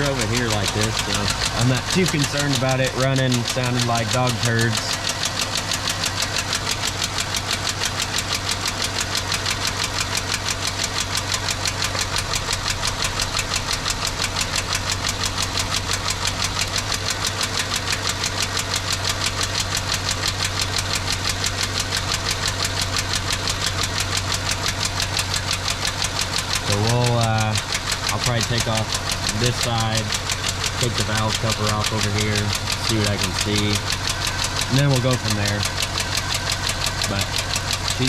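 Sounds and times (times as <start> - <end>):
engine idling rough: 0.0 - 38.0.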